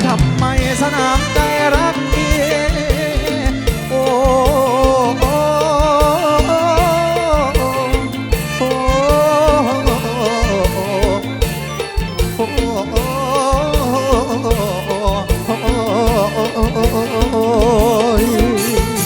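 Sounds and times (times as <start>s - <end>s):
live band music: 0.0s - 19.0s
person singing: 0.0s - 19.0s
steady drum beat: 0.0s - 19.0s.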